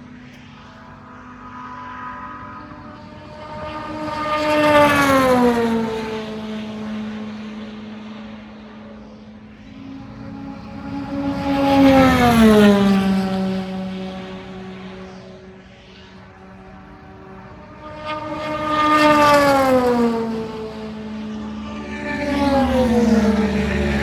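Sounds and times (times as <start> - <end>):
race cars passing at high speed: 0.0 - 24.0.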